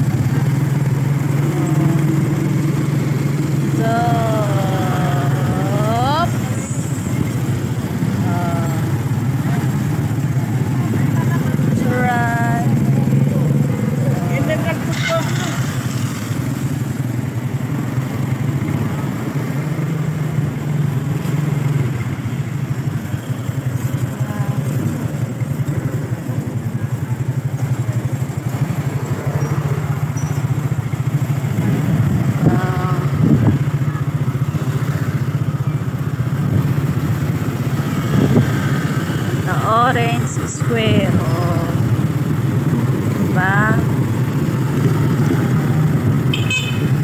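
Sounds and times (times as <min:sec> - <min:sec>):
motorcycle engine droning: 0:00.0 - 0:47.0
street traffic: 0:00.0 - 0:47.0.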